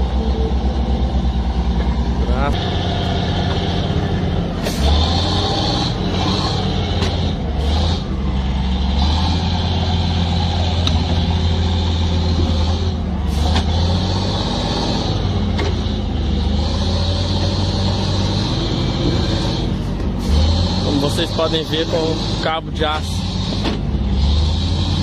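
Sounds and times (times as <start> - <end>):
diesel machinery engine running: 0.0 - 25.0.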